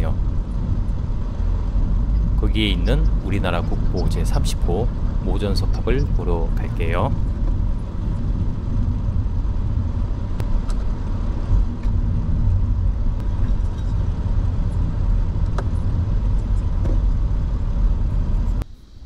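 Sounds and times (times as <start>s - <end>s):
car driving heard from inside: 0.0s - 18.7s.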